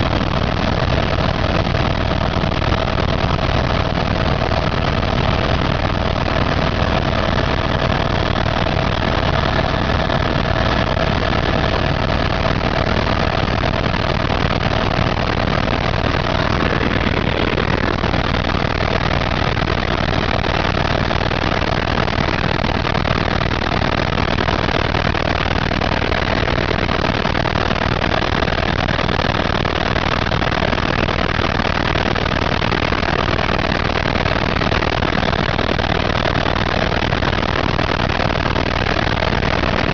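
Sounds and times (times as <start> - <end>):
helicopter engine and rotor: 0.0 - 39.9
thin steady whine: 0.0 - 39.9.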